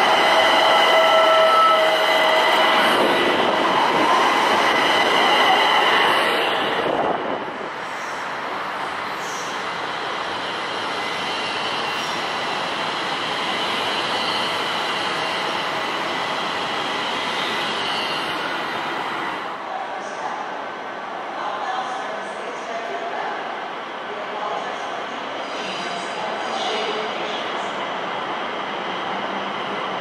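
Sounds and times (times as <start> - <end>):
train rumbling on rails: 0.0 - 30.0.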